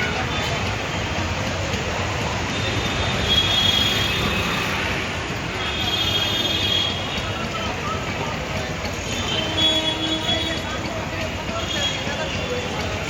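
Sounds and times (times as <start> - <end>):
passing vehicles rumbling: 0.0 - 13.0.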